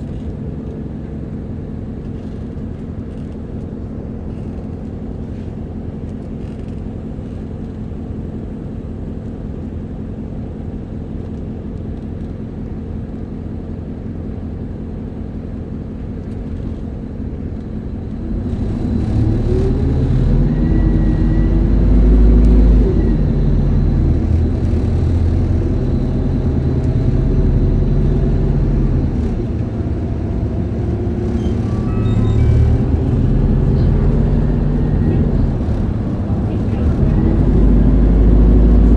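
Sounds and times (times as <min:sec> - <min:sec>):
bus diesel engine from inside: 0:00.0 - 0:38.9.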